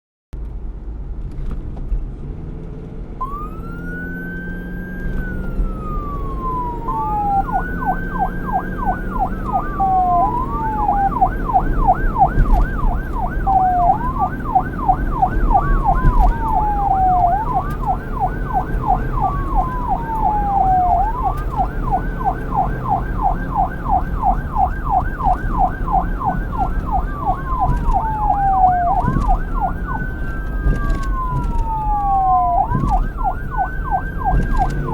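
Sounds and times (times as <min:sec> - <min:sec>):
road and engine noise: 0:00.4 - 0:34.9
police siren wailing and yelping: 0:03.2 - 0:34.9.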